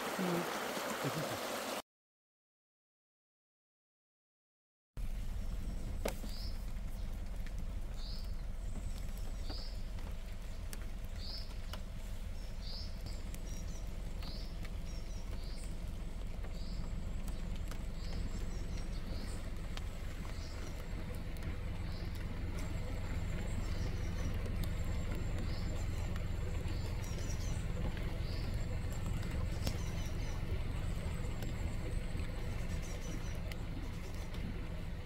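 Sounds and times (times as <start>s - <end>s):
low rumble: 5.0s - 35.0s
bird twittering: 5.4s - 7.2s, 7.9s - 34.4s
bird calling: 5.4s - 35.0s.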